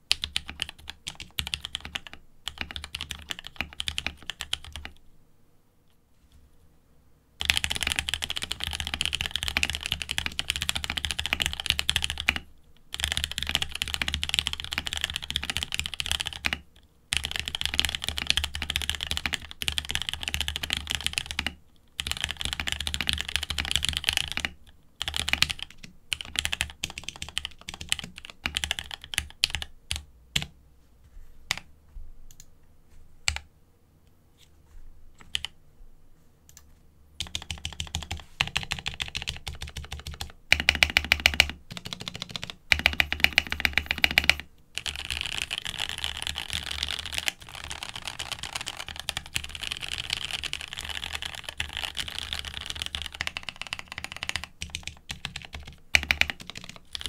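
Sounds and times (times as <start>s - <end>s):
mechanical keyboard typing: 0.1s - 5.0s, 7.4s - 30.5s, 33.3s - 33.5s, 35.2s - 35.5s, 36.5s - 57.0s.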